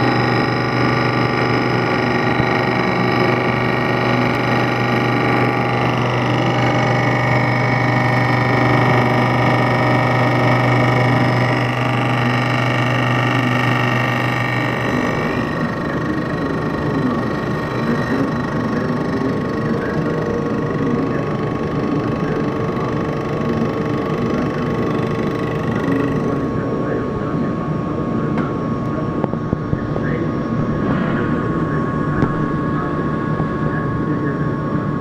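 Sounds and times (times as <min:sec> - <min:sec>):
milling machine hum: 0:00.0 - 0:35.0
milling machine whining: 0:00.0 - 0:35.0.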